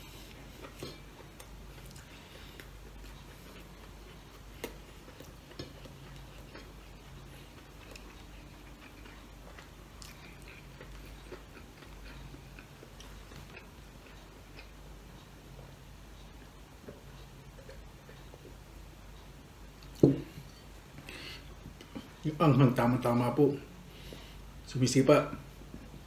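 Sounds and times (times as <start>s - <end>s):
soft chewing: 0.0s - 24.7s.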